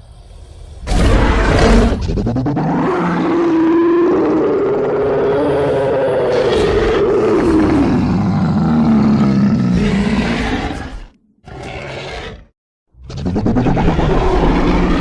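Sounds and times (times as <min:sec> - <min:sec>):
dragon roar: 0:00.8 - 0:15.0.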